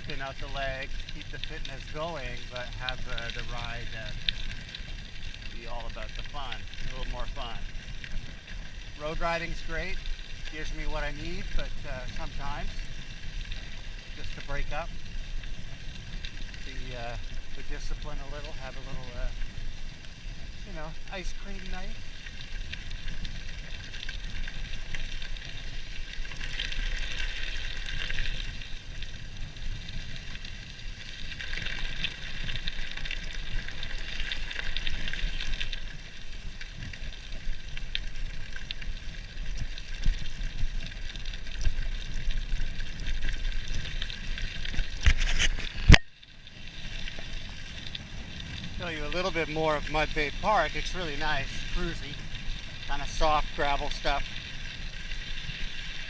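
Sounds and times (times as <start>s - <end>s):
bike tyres crunching over gravel: 0.0s - 56.0s.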